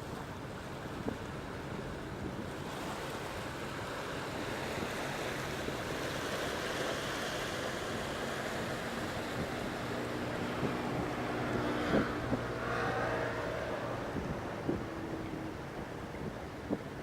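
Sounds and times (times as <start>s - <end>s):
low engine hum: 0.0s - 17.0s
wind blowing across microphone: 0.0s - 17.0s.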